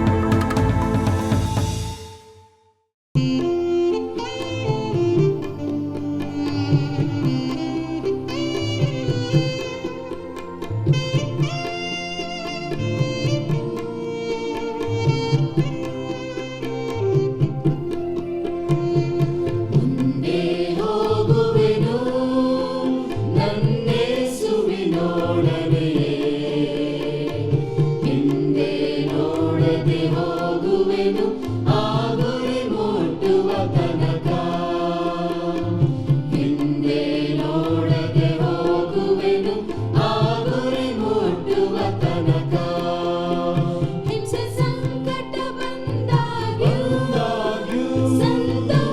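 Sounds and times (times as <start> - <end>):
music with singing voices: 0.0 - 2.5, 3.2 - 48.9.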